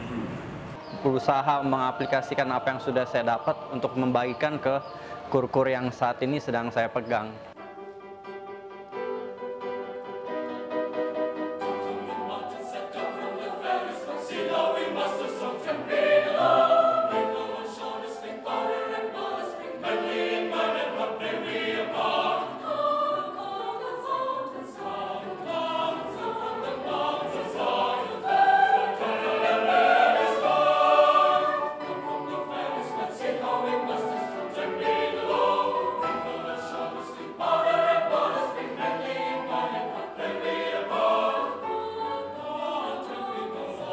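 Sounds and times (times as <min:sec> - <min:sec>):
mixed choir singing: 0:00.1 - 0:43.9.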